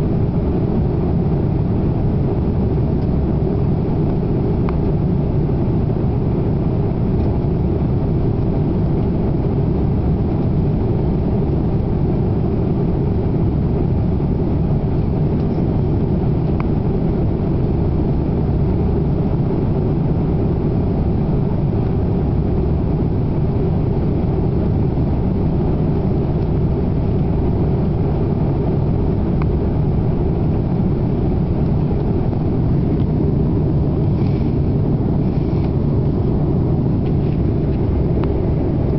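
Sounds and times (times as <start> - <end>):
airflow over aircraft fuselage: 0.0 - 38.9
jet engines droning: 0.0 - 38.9.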